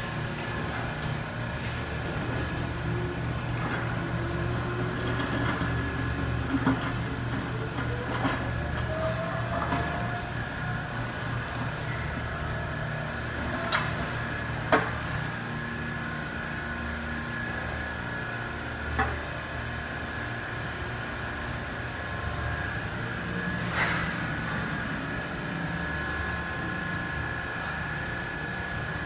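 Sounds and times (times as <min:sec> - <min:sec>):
electric and hydraulic hum: 0:00.0 - 0:29.0.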